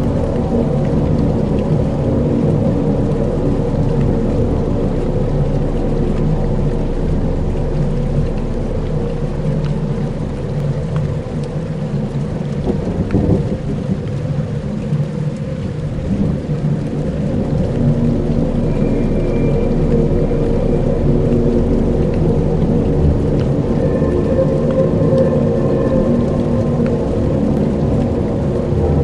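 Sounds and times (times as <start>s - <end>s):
deep rumbling drone: 0.0s - 29.0s
rain-like hiss: 0.0s - 29.0s.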